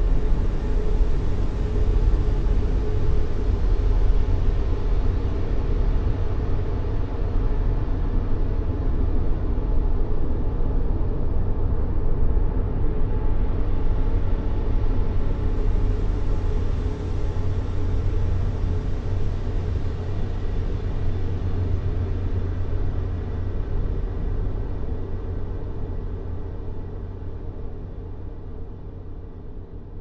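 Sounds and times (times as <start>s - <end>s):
low rumbling white noise: 0.0s - 30.0s.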